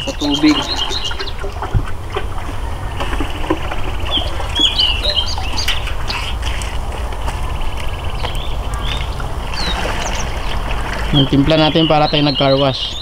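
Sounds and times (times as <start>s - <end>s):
small birds chirping: 0.0s - 1.8s, 2.6s - 13.0s.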